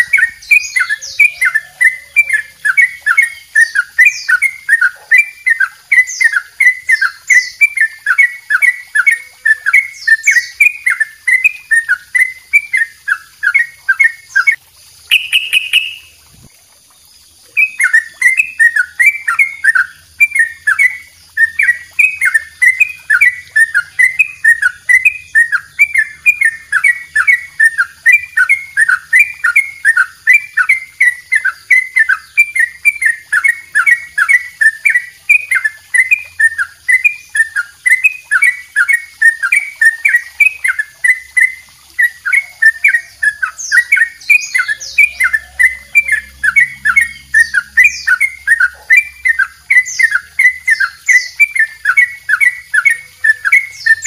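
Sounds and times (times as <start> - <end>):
bird singing chirping notes: 0.0 - 16.5, 17.5 - 54.0.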